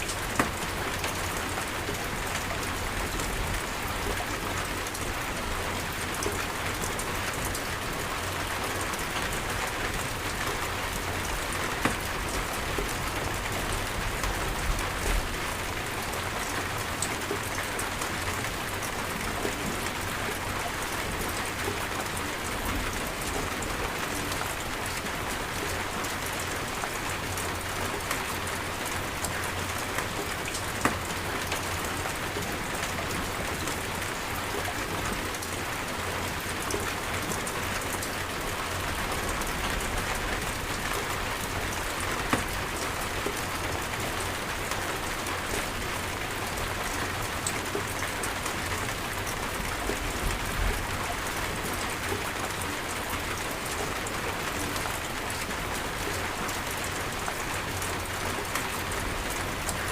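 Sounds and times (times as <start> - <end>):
raindrops ticking on surfaces: 0.0 - 59.9.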